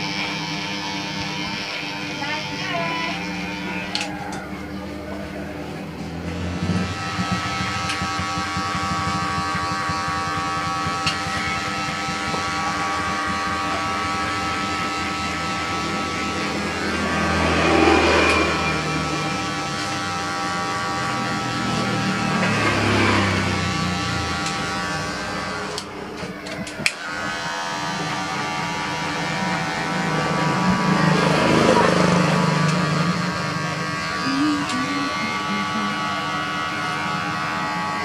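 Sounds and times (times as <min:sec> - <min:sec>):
electric hair clipper buzzing: 0:00.0 - 0:38.0.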